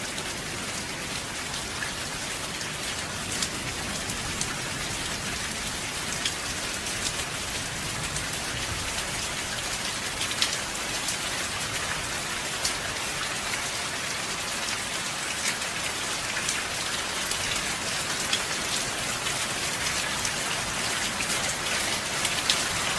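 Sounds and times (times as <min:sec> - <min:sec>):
raindrops ticking on a surface: 0:00.1 - 0:22.9.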